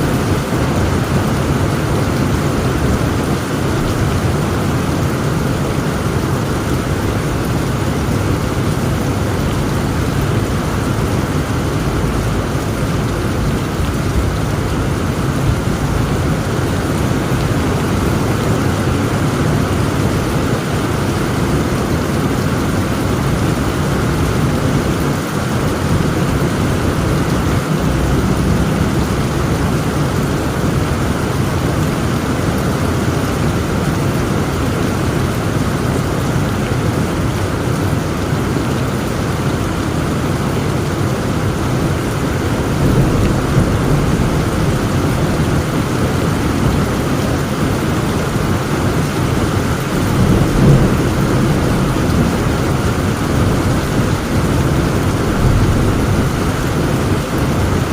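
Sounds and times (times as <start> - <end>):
thunder rumbling: 0.0 - 34.2, 42.0 - 57.9
heavy rain: 0.0 - 57.9.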